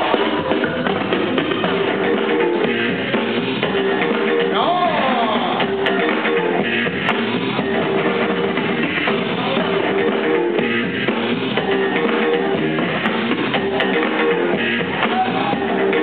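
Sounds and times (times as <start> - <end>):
music with drums and guitar: 0.0 - 16.0.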